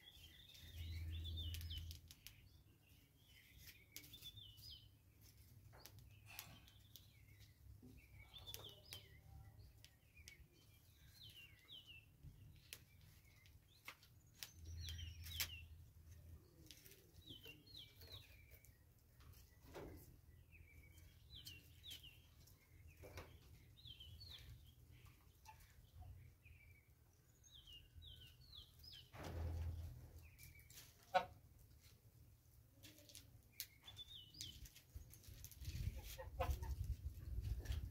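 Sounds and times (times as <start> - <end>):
small bird chirping: 0.0 - 31.2, 32.7 - 37.9.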